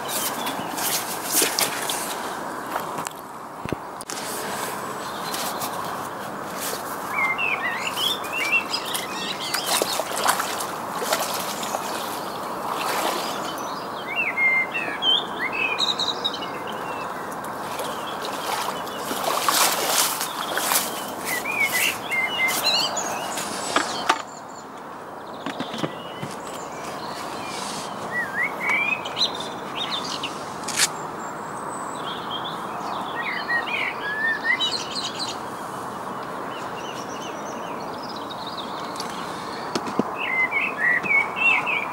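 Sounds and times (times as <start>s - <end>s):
small birds chirping: 0.0s - 2.4s, 3.6s - 41.9s.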